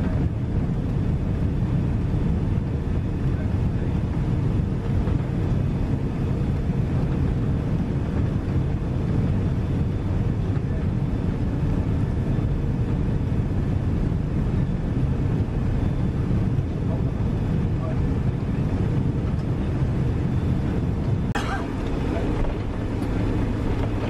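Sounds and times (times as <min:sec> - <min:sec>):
airplane cabin engine roar: 0:00.0 - 0:24.0.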